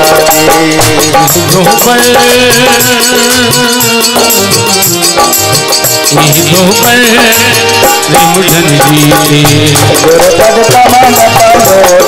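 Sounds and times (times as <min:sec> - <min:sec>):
dholak drum rhythm: 0:00.0 - 0:12.0
harmonium and keyboard melody: 0:00.0 - 0:12.0
jingling percussion: 0:00.0 - 0:12.0.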